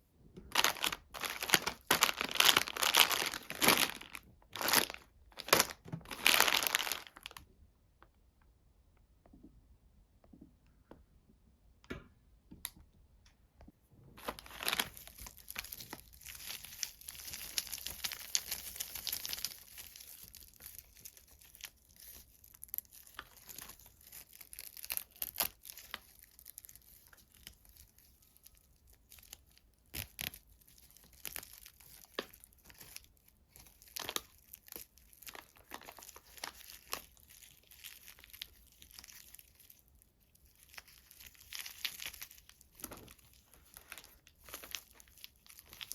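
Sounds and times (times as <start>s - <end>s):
chocolate wrapper crinkling: 0.4s - 7.4s, 14.2s - 45.9s.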